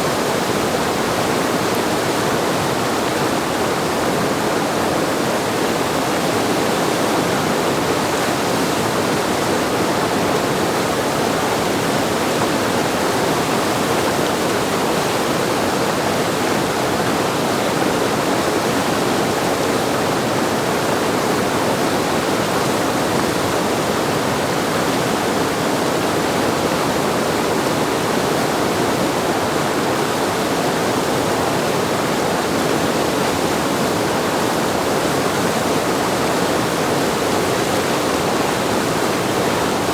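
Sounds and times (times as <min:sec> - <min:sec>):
whitewater river rushing: 0:00.0 - 0:39.9.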